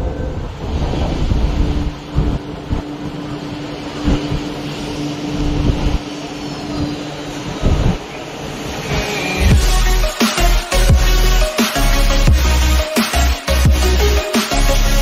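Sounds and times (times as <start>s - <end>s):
held hum: 0.0s - 15.0s
metro train rumble: 0.0s - 15.0s.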